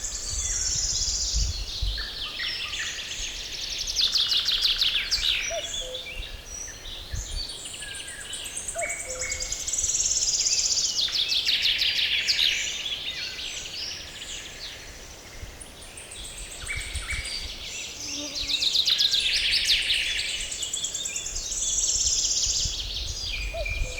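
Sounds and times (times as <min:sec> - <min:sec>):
songbirds singing: 0:00.0 - 0:23.9.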